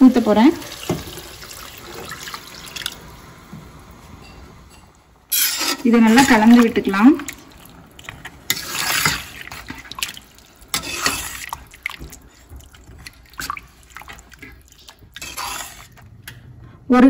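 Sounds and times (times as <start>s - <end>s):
broth sloshing in a pot: 0.0s - 16.6s.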